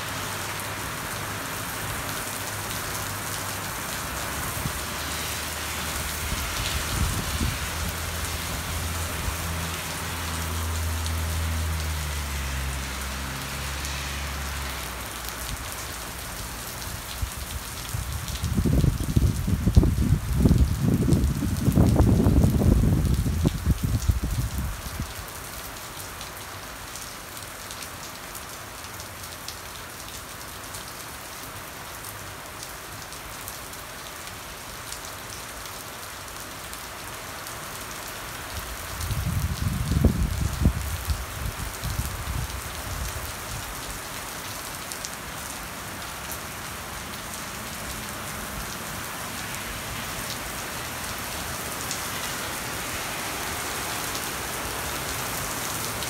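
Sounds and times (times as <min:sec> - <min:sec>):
heavy rain on pavement: 0:00.0 - 0:56.0.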